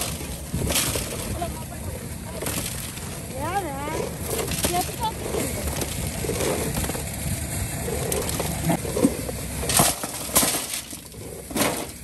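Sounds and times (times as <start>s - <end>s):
maize cobs rattling in metal basin: 0.0s - 12.0s.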